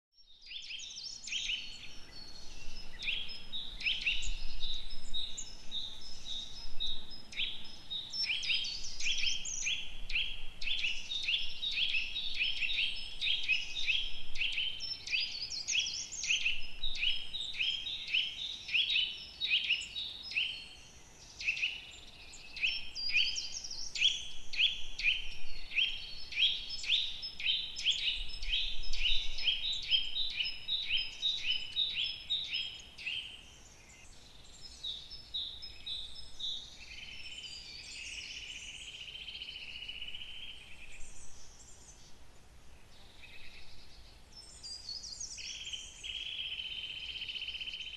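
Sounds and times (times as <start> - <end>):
woodland birdsong chorus: 0.1 - 47.9.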